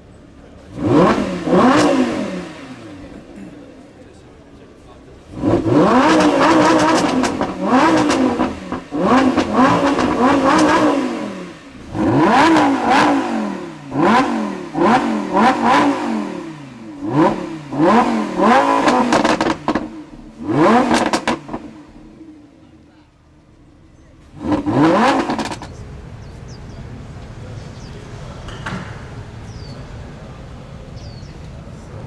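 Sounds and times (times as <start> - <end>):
car engine revving: 0.0 - 32.0
exhaust crackling and popping: 0.0 - 32.0.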